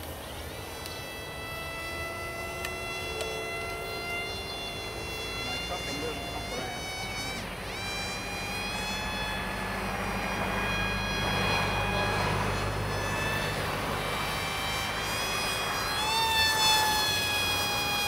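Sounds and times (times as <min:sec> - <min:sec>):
model plane motor whining: 0:00.0 - 0:18.0.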